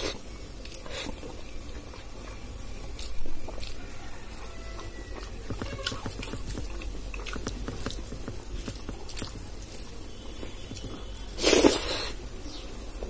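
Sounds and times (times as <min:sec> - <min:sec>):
fingers squishing food: 0:00.0 - 0:12.1
person chewing: 0:00.0 - 0:12.2.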